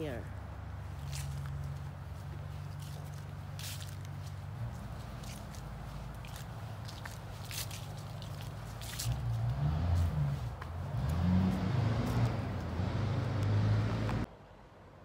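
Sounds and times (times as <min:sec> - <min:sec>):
footsteps on dry leaves: 0:00.0 - 0:13.5
passing car engine: 0:00.6 - 0:14.3.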